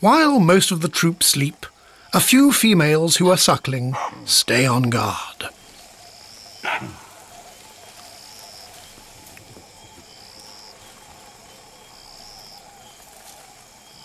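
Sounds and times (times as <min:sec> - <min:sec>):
high drawn-out insect chirp: 0:00.0 - 0:14.0
insects buzzing: 0:00.0 - 0:14.0.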